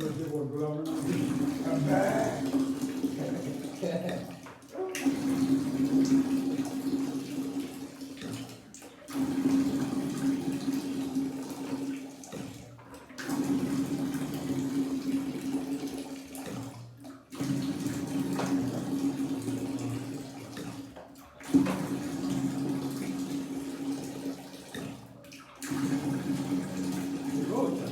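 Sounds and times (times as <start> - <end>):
water rushing out of drain: 0.0 - 27.9.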